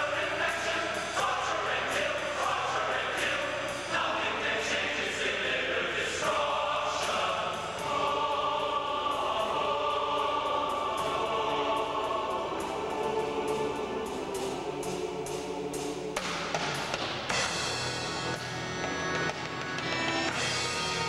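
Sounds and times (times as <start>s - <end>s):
men's chorus singing held chords: 0.0s - 18.4s.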